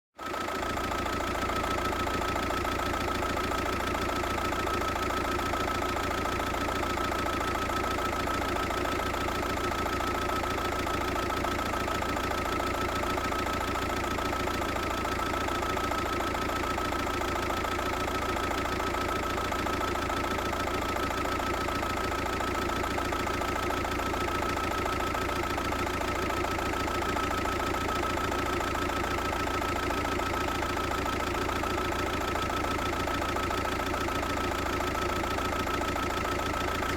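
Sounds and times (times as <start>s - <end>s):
diesel engine idling: 0.2s - 36.9s.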